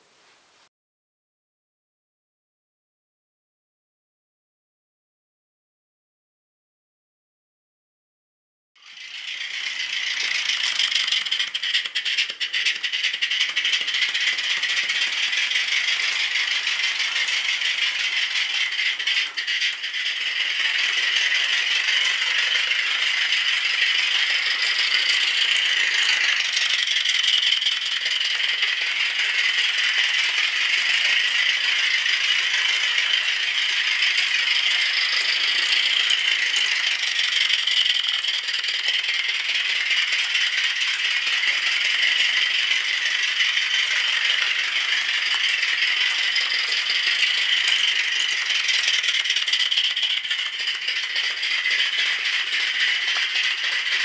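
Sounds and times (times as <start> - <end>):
toy steam locomotive chuffing: 8.8 - 54.0.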